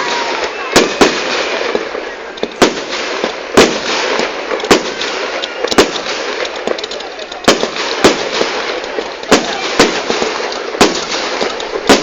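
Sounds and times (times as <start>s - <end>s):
crackling pops: 0.0s - 12.0s
fireworks bangs: 0.0s - 12.0s.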